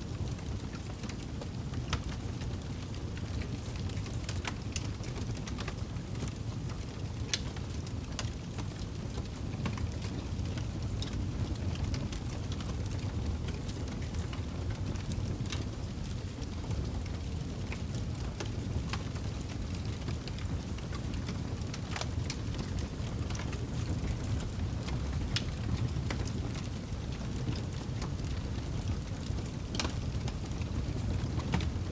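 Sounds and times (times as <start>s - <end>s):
campfire flames rumbling: 0.0s - 31.9s
burning wood crackling and popping: 0.1s - 31.9s.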